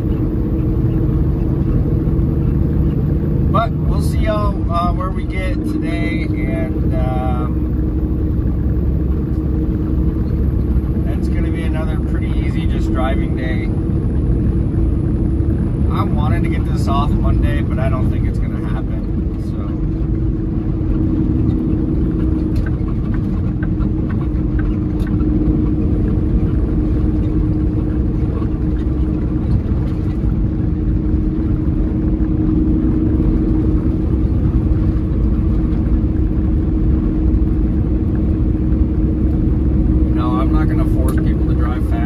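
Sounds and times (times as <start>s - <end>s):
low road rumble: 0.0s - 42.0s
truck diesel engine droning: 0.0s - 42.0s.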